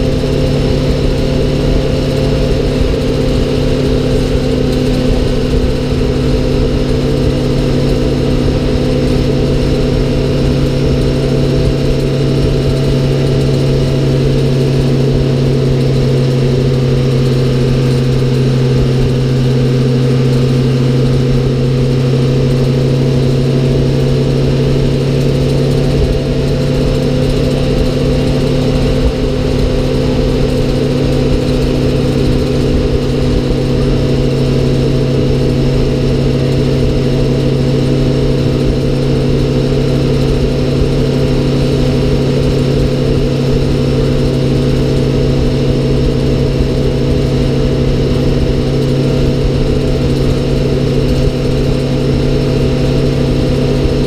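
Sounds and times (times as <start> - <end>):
fire truck engine droning: 0.0 - 54.0
road noise: 0.0 - 54.0.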